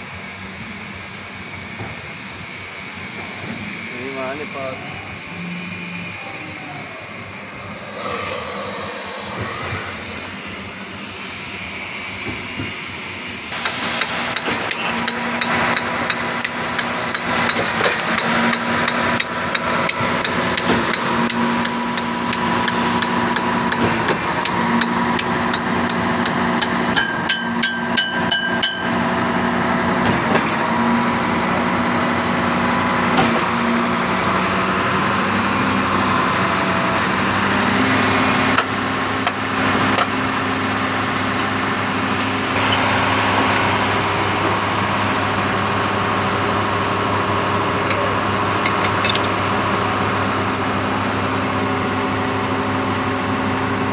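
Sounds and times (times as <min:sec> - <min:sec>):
truck engine and pump running: 0:00.0 - 0:53.9.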